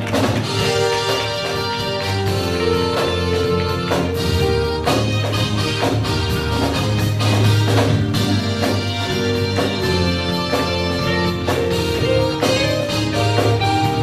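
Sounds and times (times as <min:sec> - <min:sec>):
bass line: 0:00.0 - 0:14.0
guitar: 0:00.0 - 0:14.0
keyboard chords: 0:00.0 - 0:14.0.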